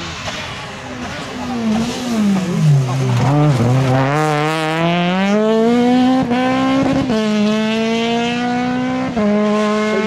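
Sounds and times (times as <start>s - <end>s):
rally car engine at high revs: 0.0s - 10.0s.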